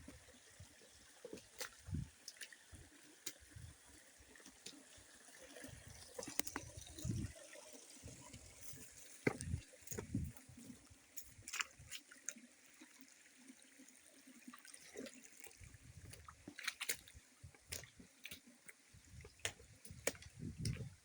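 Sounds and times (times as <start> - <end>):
water trickling and dripping: 0.0 - 21.0.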